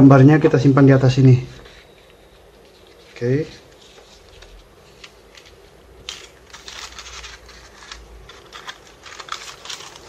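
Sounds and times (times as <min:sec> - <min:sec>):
paper rustling and crinkling: 0:01.7 - 0:10.0.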